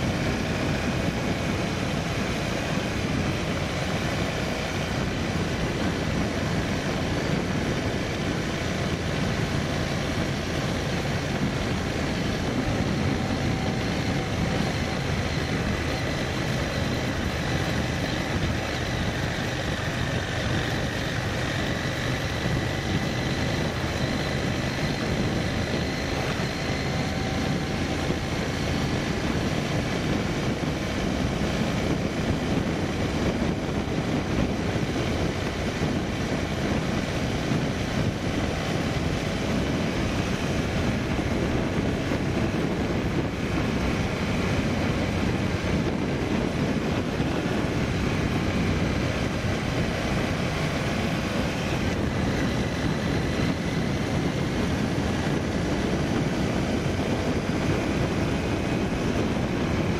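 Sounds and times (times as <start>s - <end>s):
vehicle engine running: 0.0s - 59.9s
wind and road noise: 0.0s - 59.9s.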